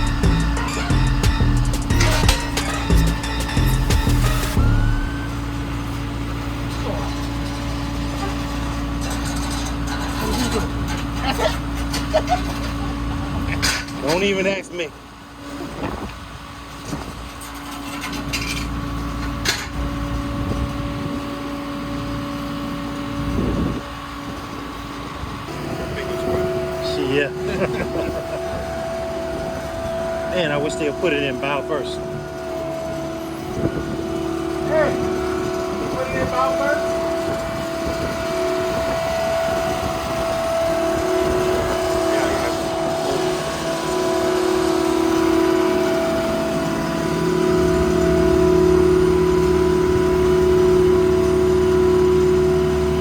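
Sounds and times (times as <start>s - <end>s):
low motor tone: 0.0s - 14.5s, 18.4s - 53.0s
engine humming: 0.0s - 53.0s.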